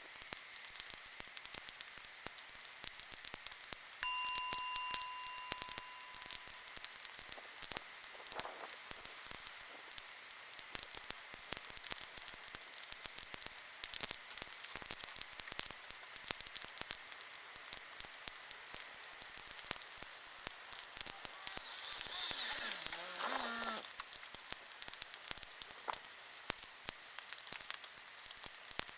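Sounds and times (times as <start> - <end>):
wood fire crackling: 0.0 - 4.1, 6.2 - 28.9.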